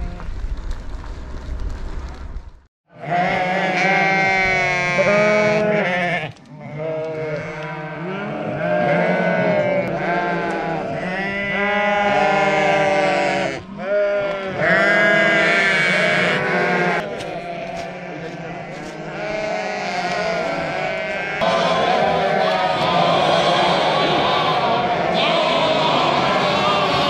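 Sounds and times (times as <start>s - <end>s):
sheep bleating: 2.9s - 27.0s.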